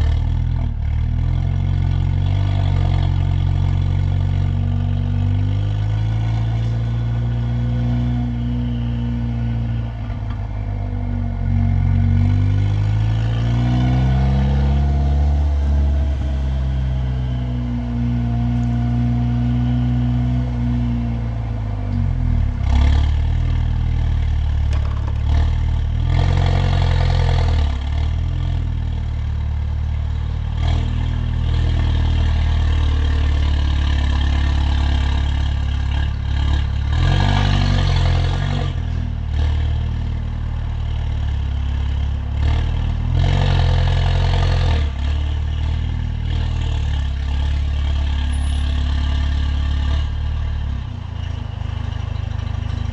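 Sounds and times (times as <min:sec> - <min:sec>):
car engine and loud exhaust: 0:00.0 - 0:52.9.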